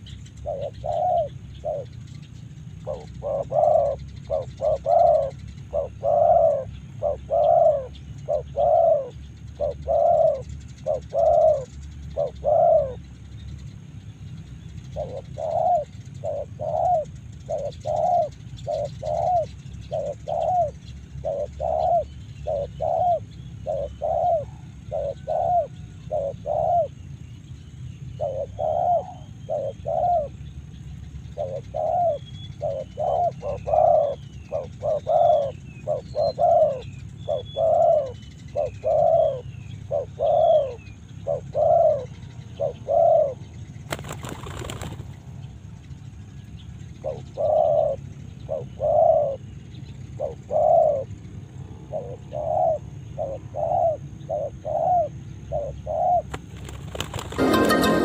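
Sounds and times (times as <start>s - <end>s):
dove cooing: 0.0s - 2.1s, 2.8s - 13.0s, 15.0s - 27.0s, 28.2s - 30.4s, 31.4s - 45.2s, 47.0s - 49.4s, 50.2s - 51.1s, 51.9s - 58.0s
small birds chirping: 0.0s - 58.0s.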